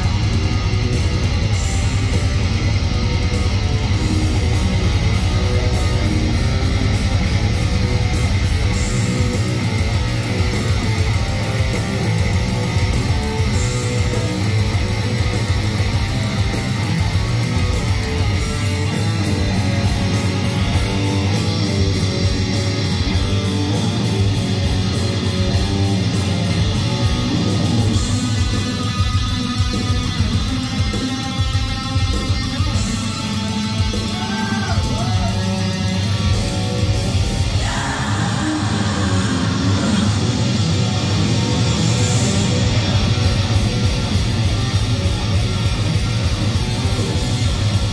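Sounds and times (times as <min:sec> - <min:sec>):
electric guitar: 0:00.0 - 0:47.9
heavy metal band playing: 0:00.0 - 0:47.9.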